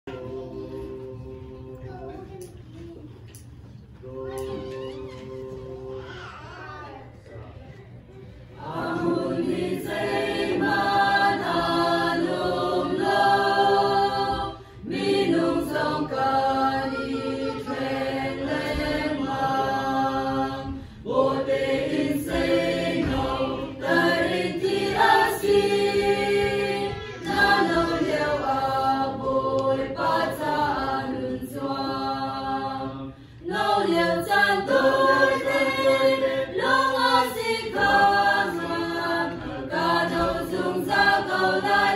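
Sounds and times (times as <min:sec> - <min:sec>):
choir singing a hymn: 0:00.0 - 0:02.3, 0:03.8 - 0:06.3, 0:08.2 - 0:41.9.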